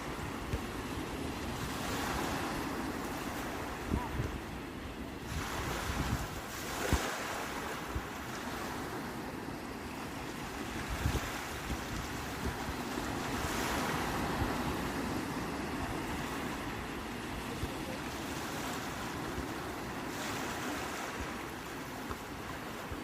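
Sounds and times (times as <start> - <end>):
sea waves breaking: 0.0 - 23.0.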